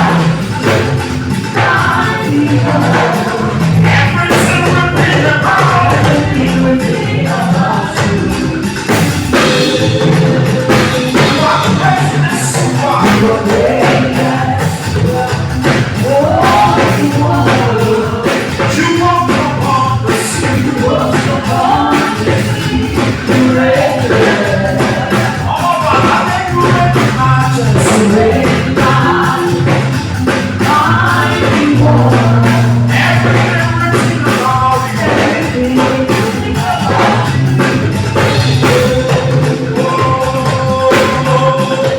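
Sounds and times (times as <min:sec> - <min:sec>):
live band music: 0:00.0 - 0:41.9
person singing: 0:00.0 - 0:41.9.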